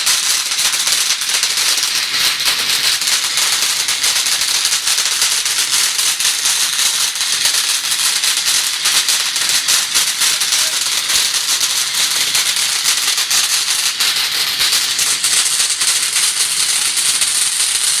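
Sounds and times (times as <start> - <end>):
firework fountain hissing and crackling: 0.0 - 18.0.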